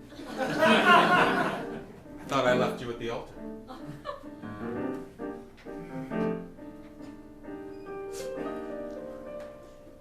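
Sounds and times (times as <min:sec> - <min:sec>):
piano slow chords: 0:00.0 - 0:10.0.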